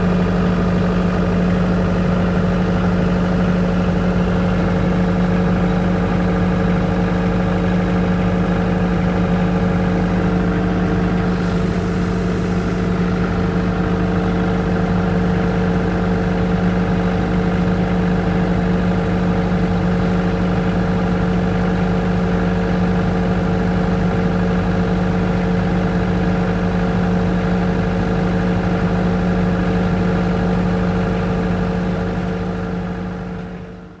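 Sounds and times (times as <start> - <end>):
generator engine humming: 0.0 - 34.0.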